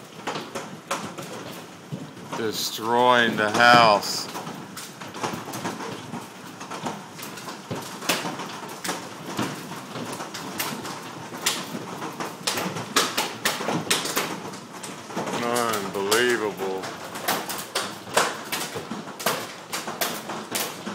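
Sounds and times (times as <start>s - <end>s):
hailstones knocking on house: 0.0s - 20.9s
rain and hail hiss: 0.0s - 20.9s.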